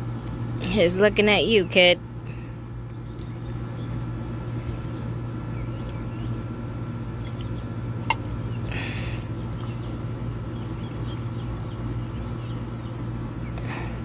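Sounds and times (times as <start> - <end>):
low outdoor background hum: 0.0 - 14.0.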